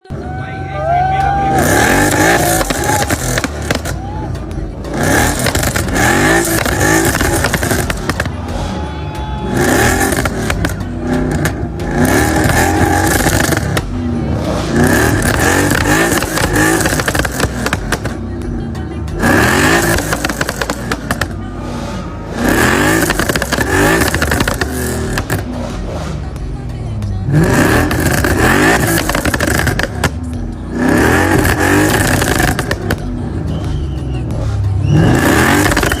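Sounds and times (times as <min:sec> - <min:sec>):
car engine revving: 0:00.0 - 0:36.0
exhaust pops and crackles: 0:01.6 - 0:08.6, 0:09.7 - 0:14.1, 0:14.8 - 0:21.5, 0:22.5 - 0:36.0.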